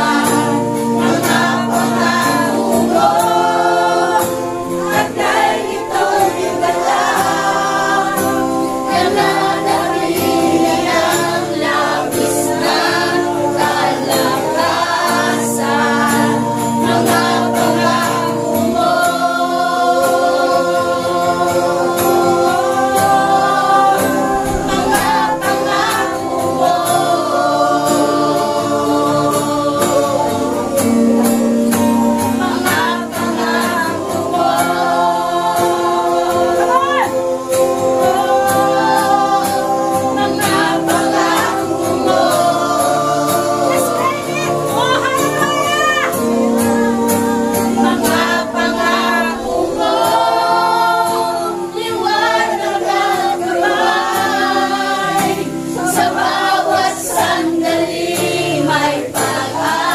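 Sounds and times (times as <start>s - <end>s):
backing music: 0.0s - 59.9s
congregation singing: 0.0s - 59.9s.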